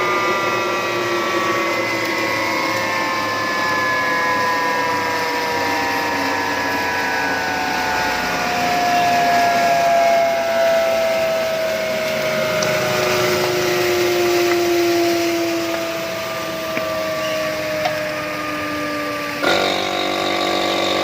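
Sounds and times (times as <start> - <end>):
disk mill grinder whirring: 0.0 - 21.0.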